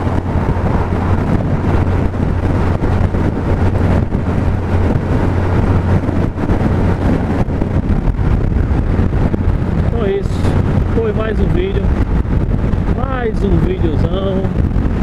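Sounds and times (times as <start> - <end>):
motorcycle engine cruising: 0.0 - 15.0
wind buffeting microphone: 0.0 - 15.0.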